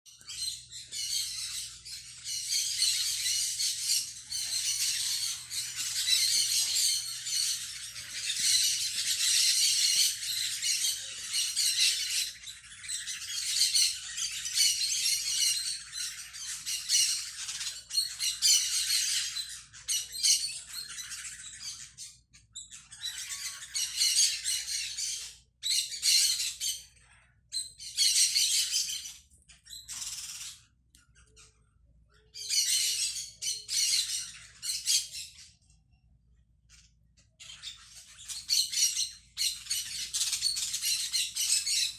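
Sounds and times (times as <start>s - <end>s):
birds chattering and chirping: 0.1s - 41.9s.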